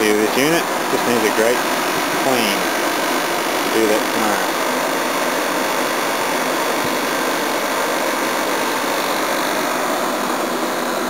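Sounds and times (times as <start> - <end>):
air conditioner fan rushing: 0.0 - 11.0
compressor hum: 0.0 - 11.0.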